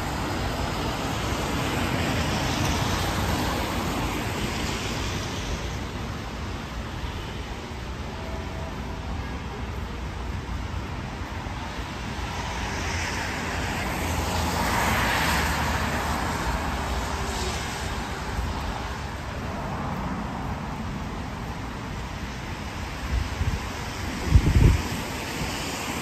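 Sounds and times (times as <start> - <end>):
car tyres hissing on wet street: 0.0 - 26.0
low rumble of city traffic: 0.0 - 26.0.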